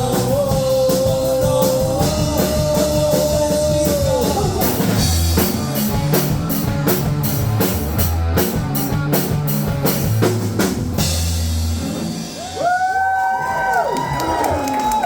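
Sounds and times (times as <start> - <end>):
drums hitting: 0.0 - 13.0
live rock band playing: 0.0 - 14.6.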